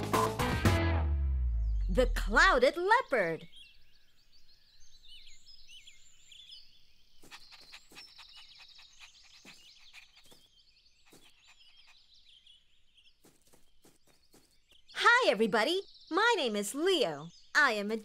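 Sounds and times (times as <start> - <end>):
birds chirping: 1.5 - 18.0.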